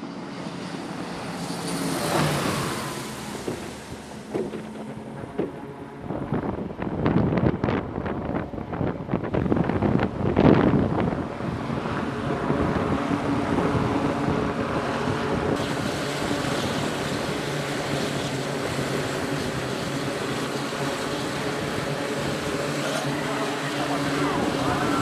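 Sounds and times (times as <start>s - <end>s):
turboprop engines droning: 0.0s - 25.0s.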